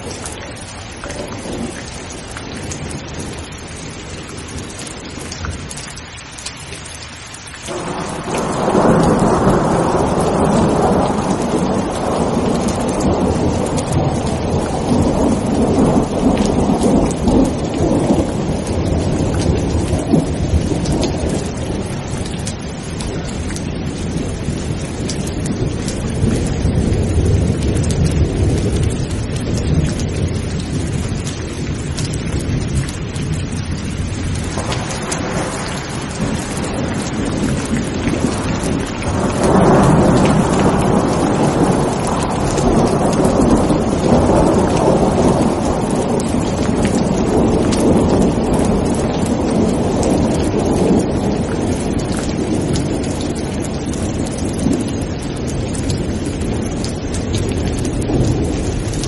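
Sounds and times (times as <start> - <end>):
thunder rumbling: 0.0 - 5.8, 7.7 - 59.0
heavy rain: 0.0 - 59.0.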